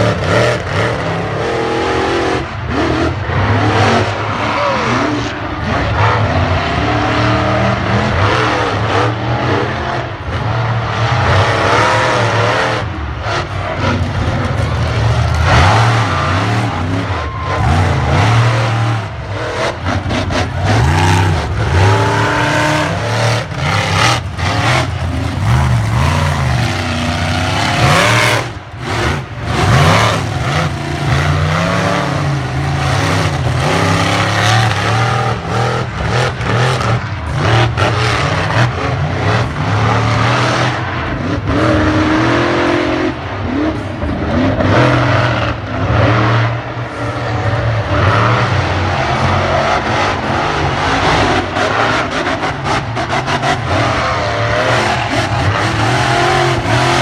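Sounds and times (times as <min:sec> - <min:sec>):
monster truck engines revving: 0:00.0 - 0:57.0.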